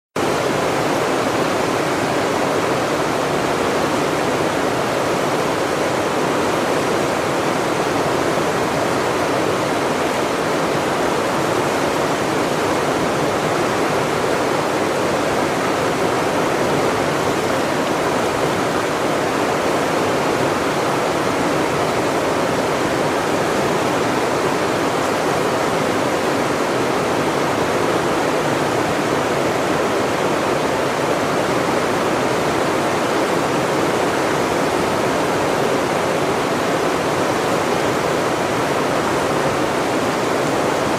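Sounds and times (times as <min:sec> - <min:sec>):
rushing river water: 0:00.2 - 0:40.9.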